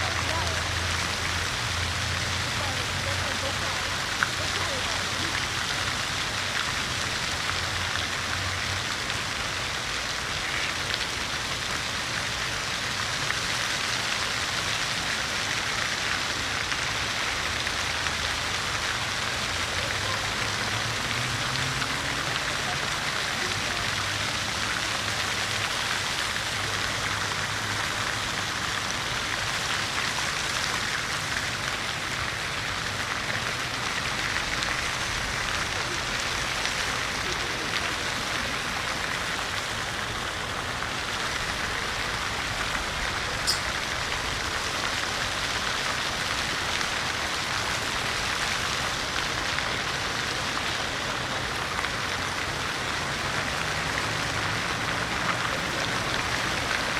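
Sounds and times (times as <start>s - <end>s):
fountain water splashing: 0.0s - 56.9s.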